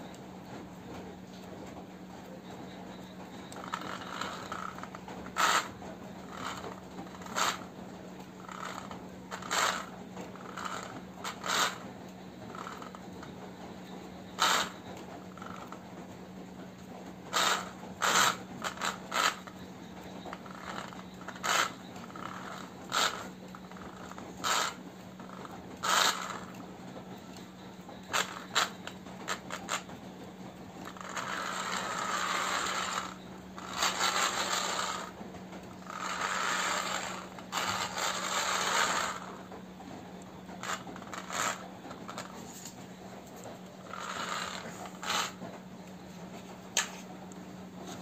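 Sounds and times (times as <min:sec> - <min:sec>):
wheels scraping on floor: 0:00.0 - 0:48.0
toy car motor whirring: 0:02.6 - 0:15.8, 0:17.3 - 0:30.0, 0:30.8 - 0:39.6, 0:40.5 - 0:46.0.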